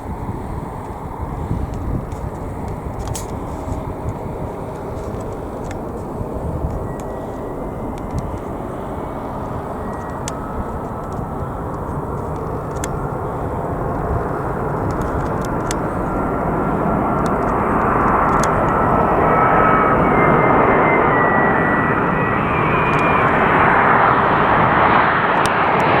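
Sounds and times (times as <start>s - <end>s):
faint steady whine: 0.0s - 25.2s
aircraft engine approaching: 0.0s - 26.0s.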